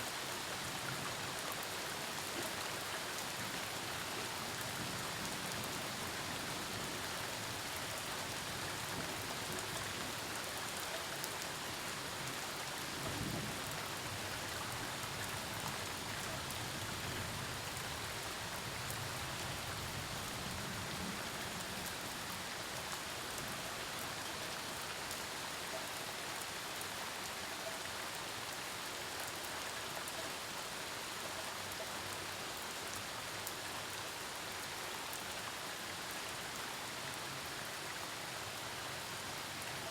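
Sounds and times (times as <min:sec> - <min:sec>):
heavy rain falling: 0:00.1 - 0:39.7.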